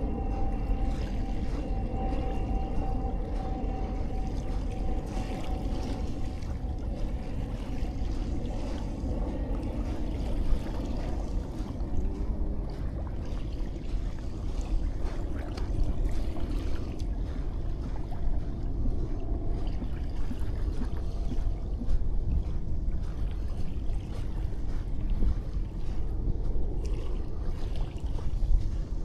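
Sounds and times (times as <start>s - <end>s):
faint steady hum: 0.0s - 29.0s
waves lapping on sandy shore: 0.0s - 29.0s
wind rumble on microphone: 0.0s - 29.0s.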